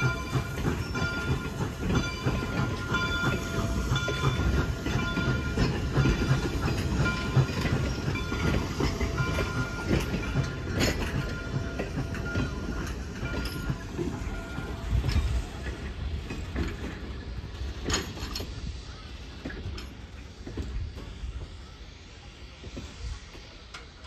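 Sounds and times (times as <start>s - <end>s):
train wheels rumbling and clacking: 0.0s - 24.0s.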